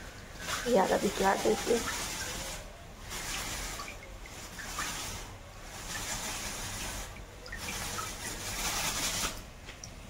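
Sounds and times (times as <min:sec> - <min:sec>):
water splashing and dribbling: 0:00.0 - 0:10.0.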